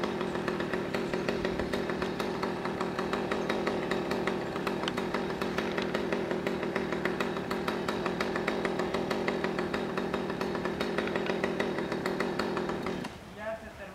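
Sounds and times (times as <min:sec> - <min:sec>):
chainsaw running: 0:00.0 - 0:13.2.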